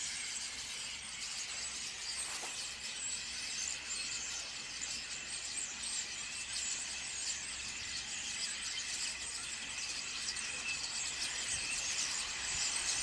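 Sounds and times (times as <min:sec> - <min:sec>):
flock of starlings chattering: 0:00.0 - 0:13.0.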